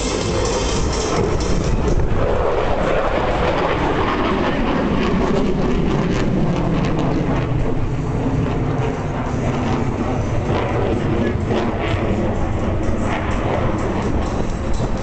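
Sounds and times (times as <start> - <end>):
fighter jet engine rumble: 0.0 - 15.0.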